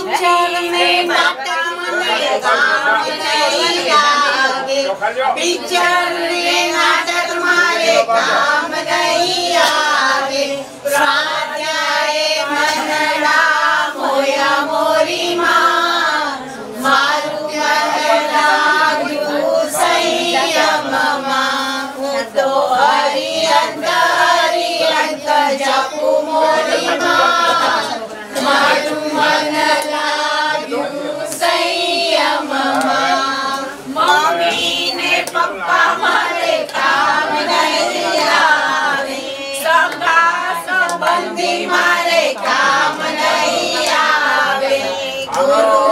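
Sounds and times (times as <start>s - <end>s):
women singing devotional song: 0.0s - 45.9s.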